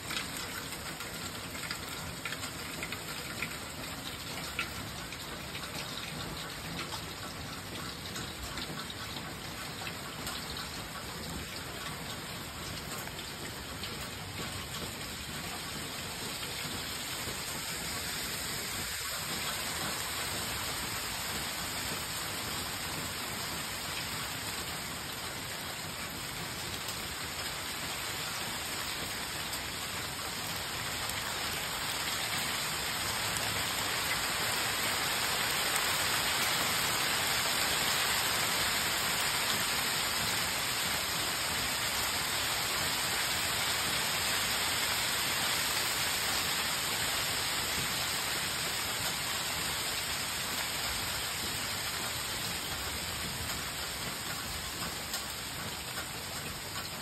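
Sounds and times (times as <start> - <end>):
heavy rain on leaves and ground: 0.0 - 57.0.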